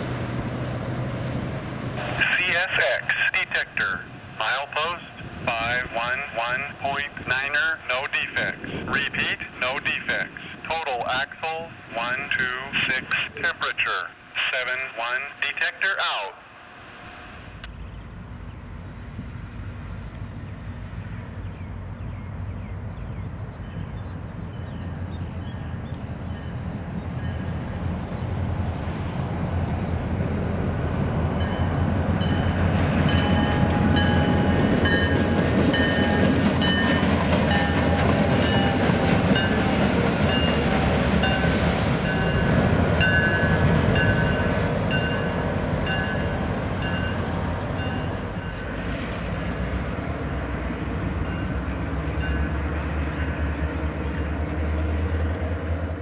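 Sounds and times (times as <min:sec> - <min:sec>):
diesel locomotive rumble: 0:00.0 - 0:56.0.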